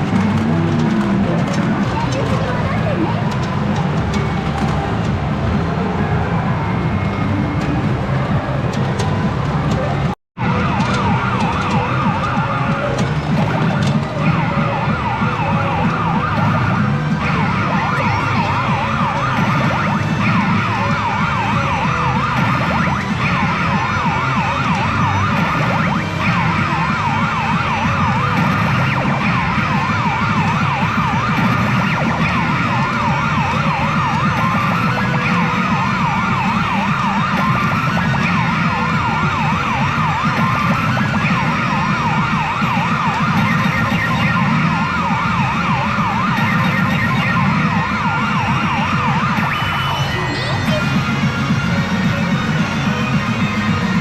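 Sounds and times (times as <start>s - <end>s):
warbling siren-like electronic tones: 10.4s - 54.0s.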